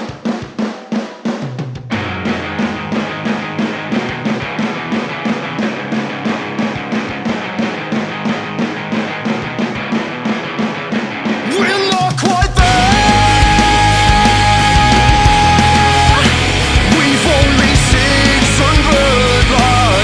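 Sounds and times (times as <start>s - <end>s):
rock band playing: 1.7s - 20.0s.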